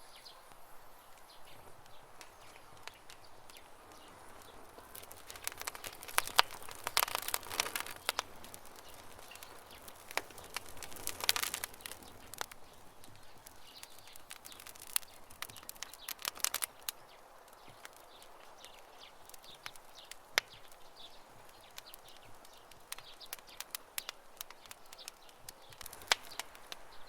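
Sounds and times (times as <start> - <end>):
campfire crackling: 0.0 - 27.0
faint birdsong: 0.0 - 27.0.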